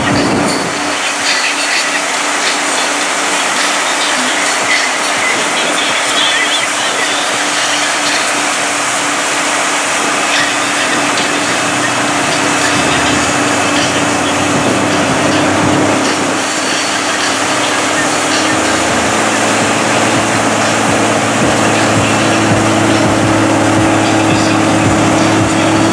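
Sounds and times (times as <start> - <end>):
diesel engine running under load: 0.0 - 25.9
tires churning through mud: 0.0 - 25.9.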